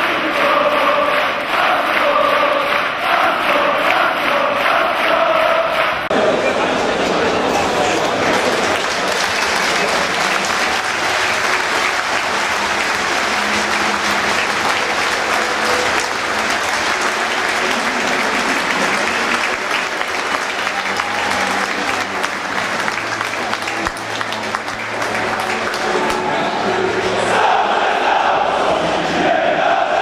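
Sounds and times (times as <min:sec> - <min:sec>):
stadium crowd applauding: 0:00.0 - 0:28.2.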